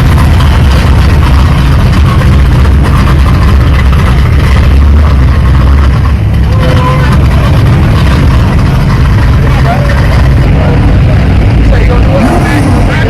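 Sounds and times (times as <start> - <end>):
car engine deep rumble: 0.0 - 13.0.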